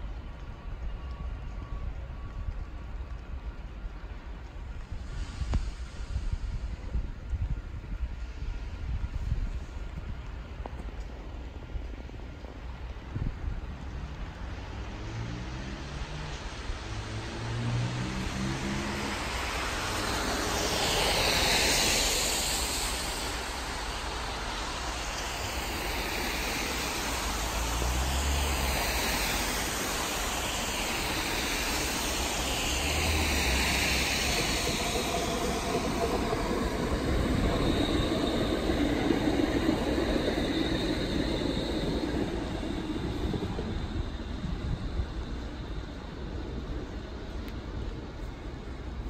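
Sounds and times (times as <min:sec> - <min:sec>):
train wheels on rails: 0:00.0 - 0:49.0.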